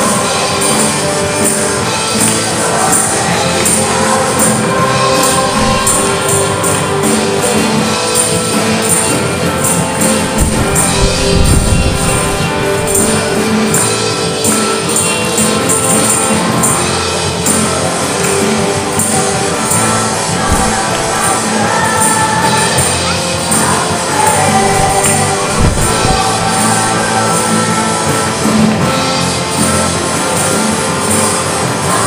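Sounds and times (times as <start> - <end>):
bass: 0.0 - 32.0
drum kit: 0.0 - 32.0
group singing: 0.0 - 32.0
strummed acoustic guitar: 0.0 - 32.0
tambourine jingling: 0.0 - 32.0.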